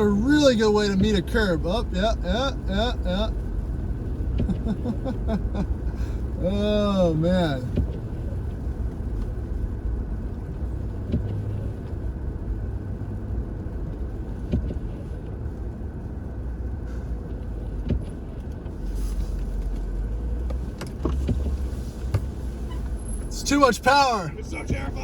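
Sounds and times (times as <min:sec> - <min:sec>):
car driving in snow: 0:00.0 - 0:25.0.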